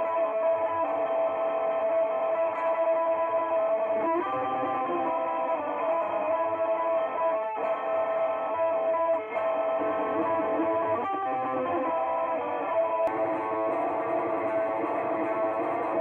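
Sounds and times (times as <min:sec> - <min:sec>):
electric guitar metal riffs: 0:00.0 - 0:16.0.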